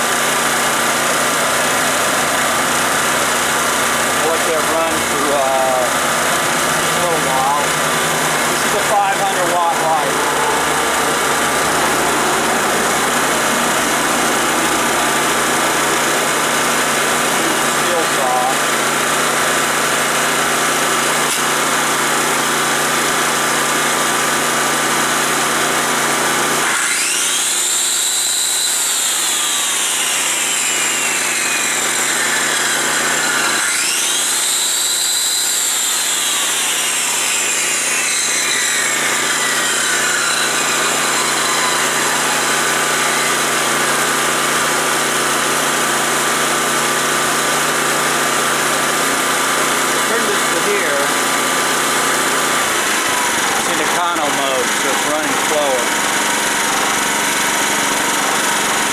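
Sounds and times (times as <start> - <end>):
generator engine running: 0.0 - 33.6, 34.2 - 58.9
circular saw motor whining: 0.0 - 58.9.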